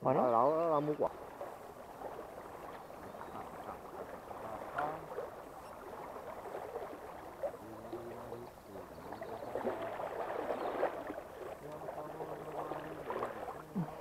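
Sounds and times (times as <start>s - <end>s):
river water flowing over shallows: 0.0s - 14.0s.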